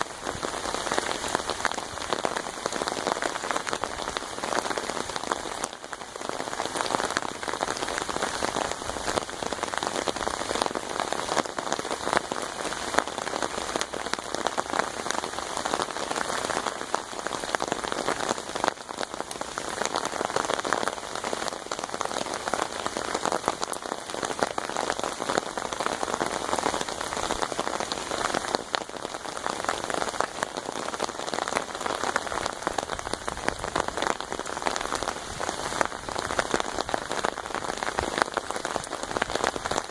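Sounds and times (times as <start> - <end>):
rain drumming on an umbrella: 0.0 - 39.9.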